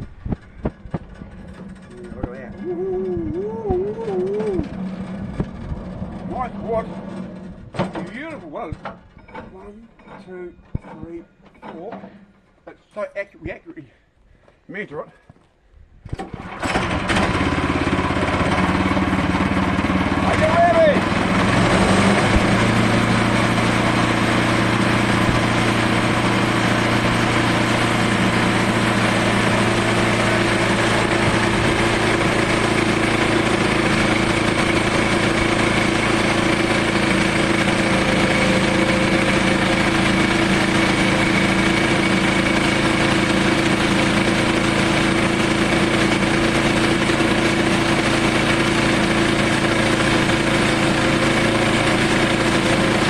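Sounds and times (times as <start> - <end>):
sawmill engine running: 0.0 - 12.4, 16.2 - 53.0.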